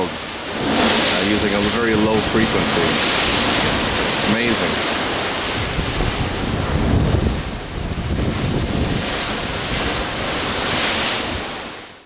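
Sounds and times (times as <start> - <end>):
wind buffeting microphone: 0.0 - 11.7
sea rushing: 0.0 - 12.0.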